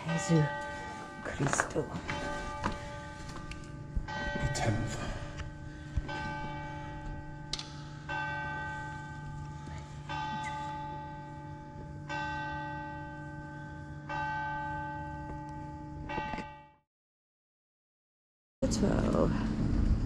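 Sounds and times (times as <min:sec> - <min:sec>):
church bell tolling: 0:00.0 - 0:16.8.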